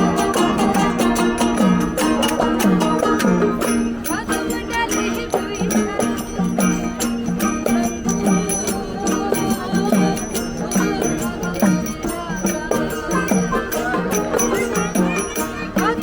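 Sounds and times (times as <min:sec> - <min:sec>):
person singing: 0:00.0 - 0:16.0
rattling percussion beat: 0:00.0 - 0:16.0.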